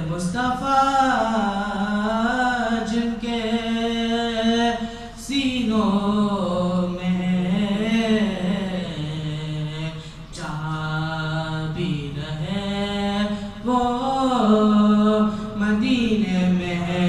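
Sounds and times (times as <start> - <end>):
man chanting unaccompanied: 0.0 - 17.0.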